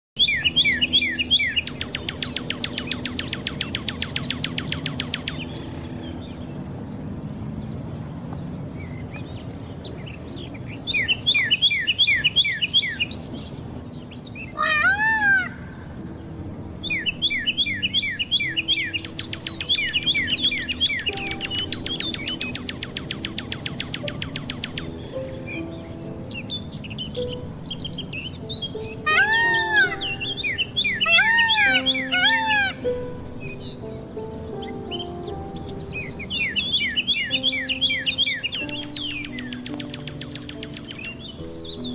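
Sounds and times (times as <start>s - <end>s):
rising and falling bird call: 0.2s - 7.8s, 8.7s - 41.9s
birds chirping: 0.2s - 41.9s.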